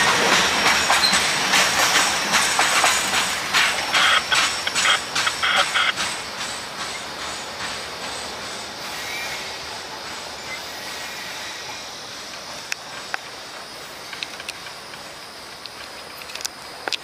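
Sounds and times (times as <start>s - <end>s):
freight train rail noise: 0.0s - 17.0s.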